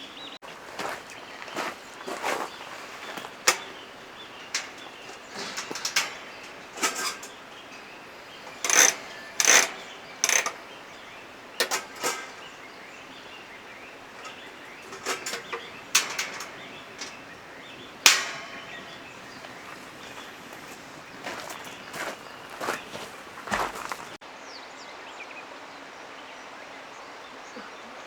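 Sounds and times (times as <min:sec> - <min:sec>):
clicks and knocks: 0:00.9 - 0:24.2.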